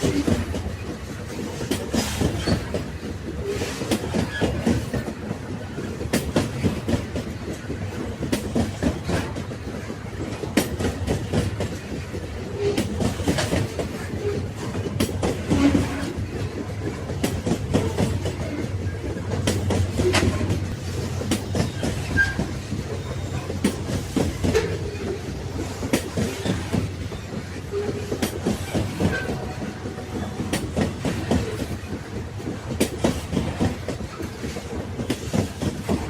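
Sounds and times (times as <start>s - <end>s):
railway wagons rumbling on tracks: 0.0s - 36.0s
wheels clacking over rails: 0.0s - 36.0s.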